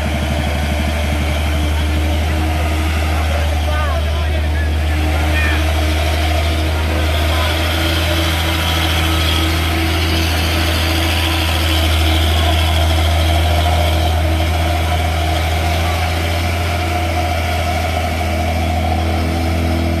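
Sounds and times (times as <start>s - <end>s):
heavy diesel truck engine droning: 0.0s - 20.0s.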